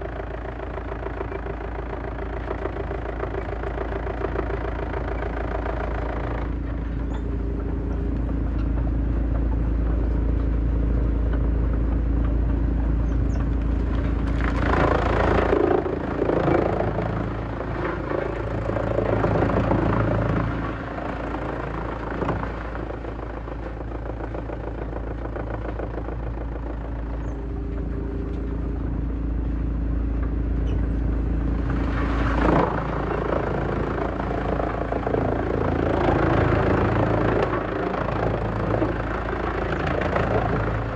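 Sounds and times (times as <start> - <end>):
wood shredder engine drone: 0.0 - 40.9.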